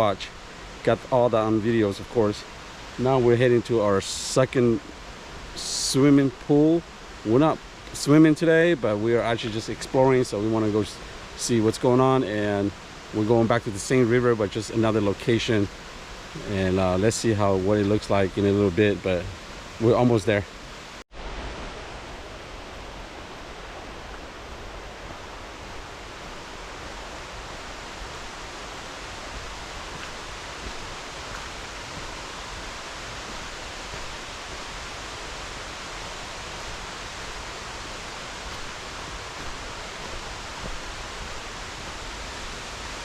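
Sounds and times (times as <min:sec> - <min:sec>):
river water rushing: 0:00.0 - 0:43.0.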